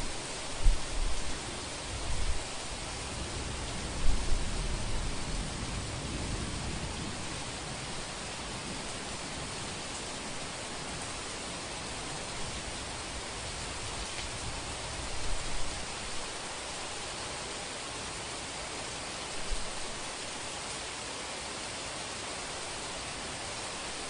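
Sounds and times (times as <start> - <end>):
rain hiss: 0.0 - 24.0.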